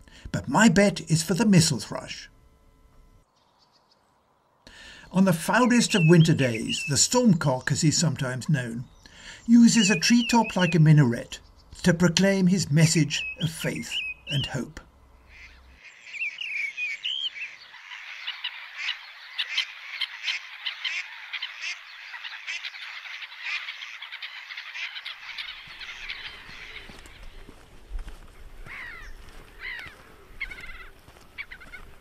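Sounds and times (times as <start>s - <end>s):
thrush calling and singing: 0.0s - 32.0s.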